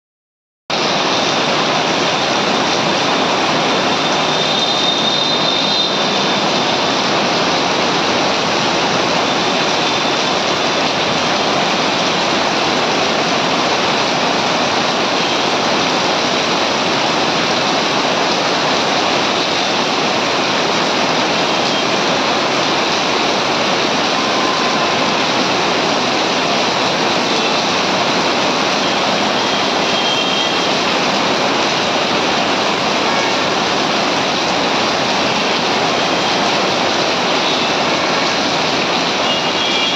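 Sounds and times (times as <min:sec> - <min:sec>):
heavy rain on pavement: 0:00.7 - 0:39.9.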